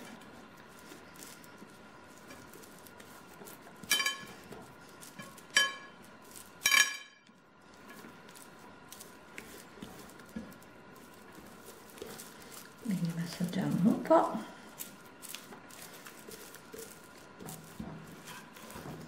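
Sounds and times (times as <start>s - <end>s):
hands rubbing raw chicken: 0.0s - 6.6s, 7.6s - 19.0s.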